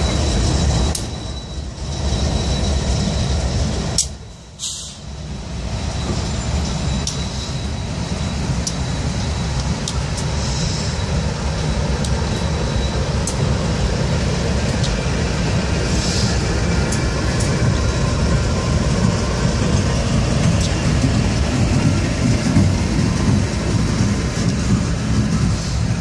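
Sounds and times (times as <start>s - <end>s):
locomotives rumbling past: 0.0s - 26.0s.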